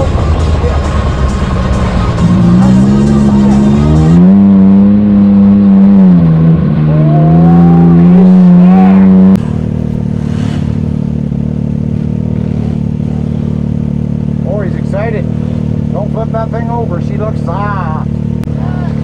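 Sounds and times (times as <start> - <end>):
engine revving hard: 1.7 - 19.0.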